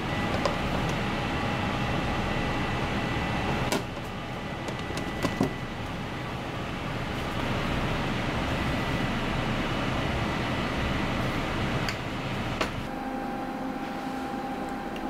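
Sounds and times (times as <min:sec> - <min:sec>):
kitchen background hum: 0:00.0 - 0:15.0.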